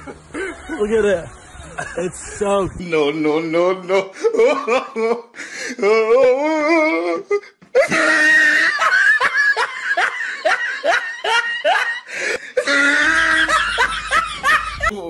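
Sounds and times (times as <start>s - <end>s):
person laughing: 0.0s - 1.0s, 3.9s - 15.0s.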